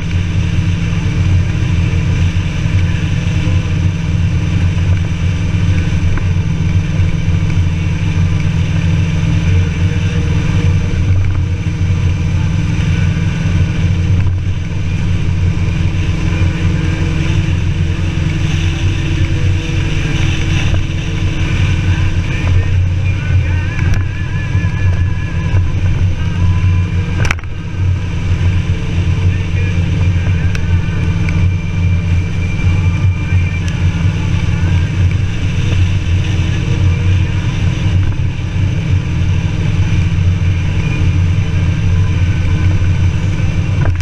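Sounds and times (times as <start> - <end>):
motorcycle engine cruising: 0.0 - 44.0
wind and road noise: 0.0 - 44.0.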